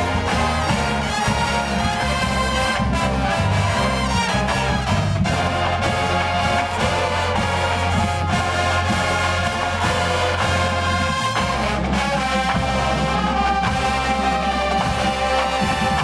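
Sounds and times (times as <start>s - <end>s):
marching band brass playing: 0.0s - 16.0s.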